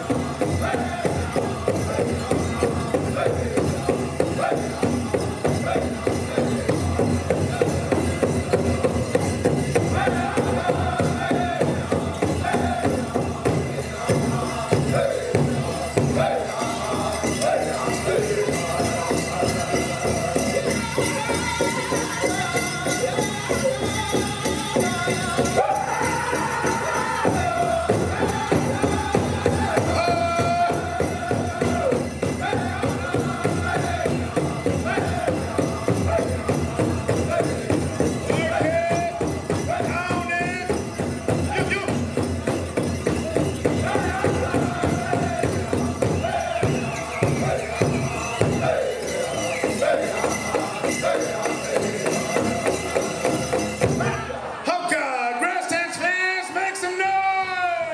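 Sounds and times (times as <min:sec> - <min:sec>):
big drum steady beat: 0:00.0 - 0:48.9
singers singing: 0:00.0 - 0:57.9.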